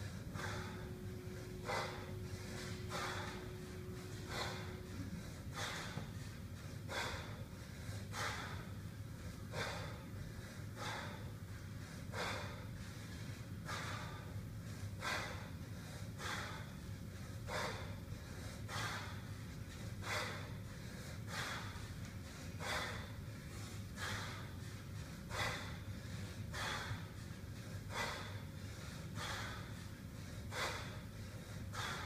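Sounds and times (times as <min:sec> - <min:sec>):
man breathing hard: 0:00.0 - 0:32.0
steady low hum: 0:00.0 - 0:32.0.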